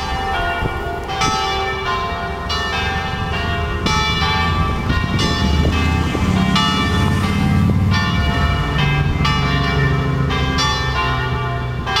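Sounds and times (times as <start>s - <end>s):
church bells playing a tune: 0.0s - 12.0s.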